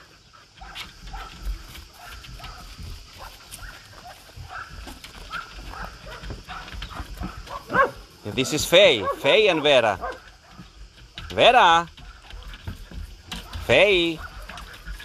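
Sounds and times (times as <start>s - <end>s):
distant dogs barking: 0.0s - 15.0s.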